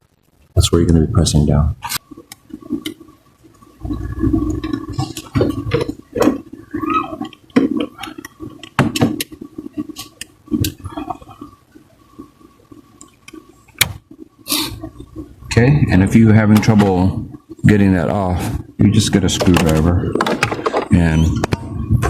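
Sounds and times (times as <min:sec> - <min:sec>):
rubbing and handling noise: 0:01.8 - 0:22.0.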